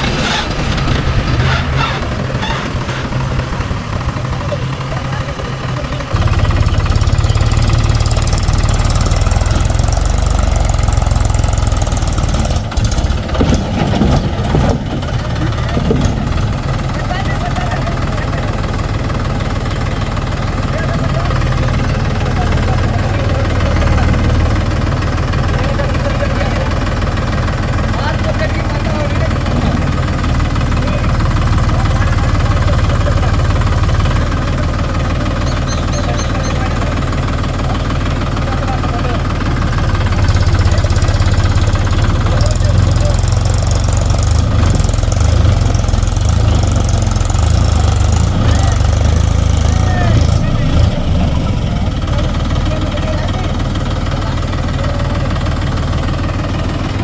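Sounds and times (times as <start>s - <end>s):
diesel engine running: 0.0s - 57.0s
engine knocks and rattles: 0.0s - 57.0s.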